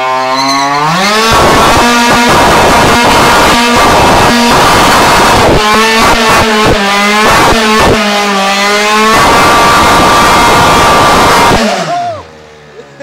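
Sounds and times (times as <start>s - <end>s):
scooter engine revving: 0.0s - 12.4s.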